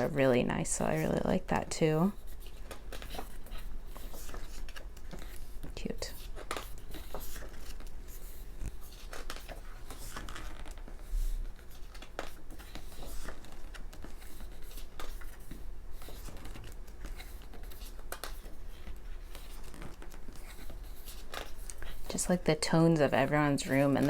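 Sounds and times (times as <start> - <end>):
photo book pages turning: 2.0 - 24.0
paper rustling: 2.1 - 24.0.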